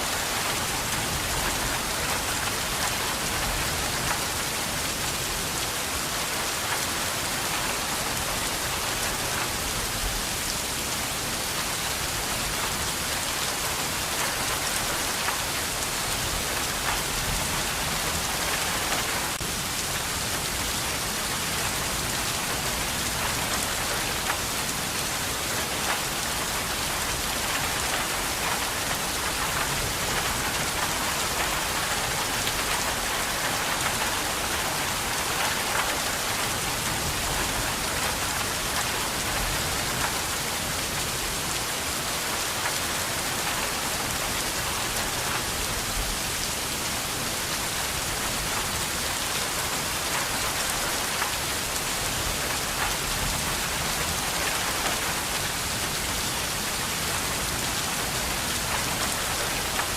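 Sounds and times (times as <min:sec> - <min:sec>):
rain on a hard surface: 0:00.0 - 0:59.9.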